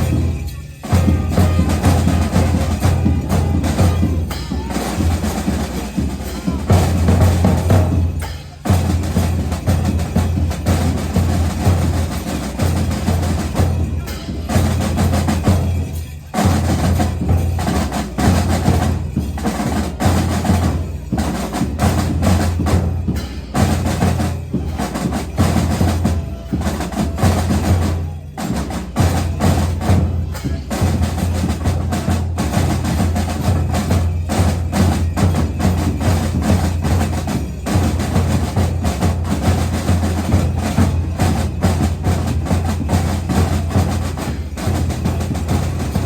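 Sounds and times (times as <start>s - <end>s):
heavy drum and percussion music: 0.0s - 46.0s.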